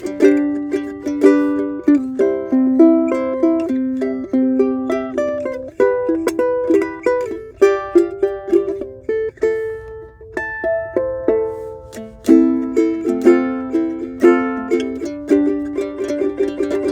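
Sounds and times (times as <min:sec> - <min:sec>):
ukulele playing melody: 0:00.0 - 0:16.9.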